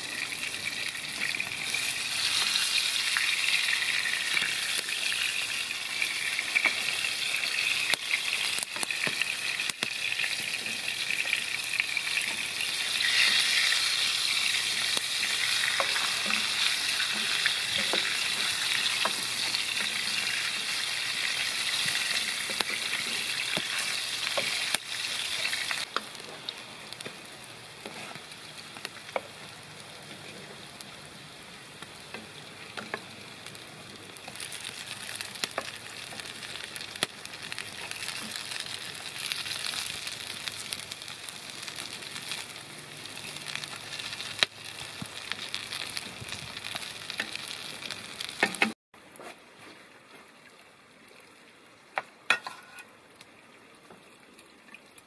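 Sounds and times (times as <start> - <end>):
patties sizzling in oil: 0.0 - 48.8, 52.0 - 53.3.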